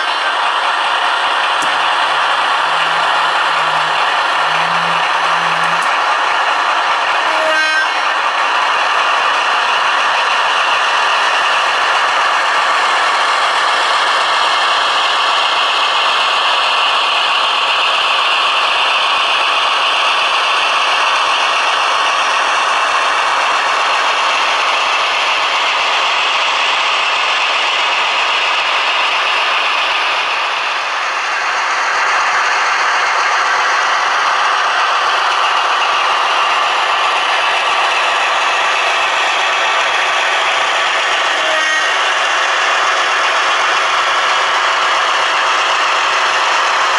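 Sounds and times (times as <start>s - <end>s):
model train rattling on track: 0.0s - 46.9s.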